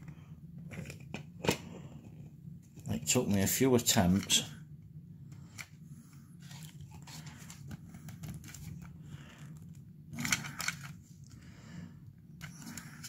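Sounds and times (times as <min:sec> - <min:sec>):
plastic parts scraping and rattling: 0:00.6 - 0:04.5, 0:05.4 - 0:11.4, 0:12.3 - 0:13.0.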